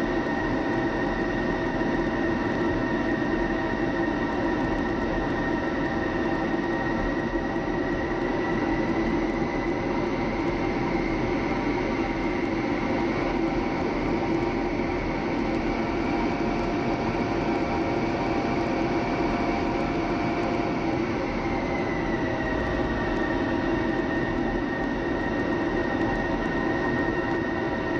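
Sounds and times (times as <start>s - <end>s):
jet engine whine and rumble: 0.0s - 27.9s.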